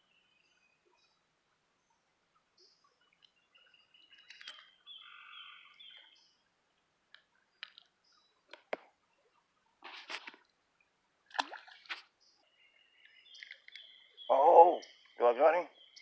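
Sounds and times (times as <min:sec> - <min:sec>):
bird chirp: 0:00.0 - 0:06.5, 0:07.2 - 0:09.8, 0:12.0 - 0:16.0
faint bird song: 0:00.0 - 0:16.0.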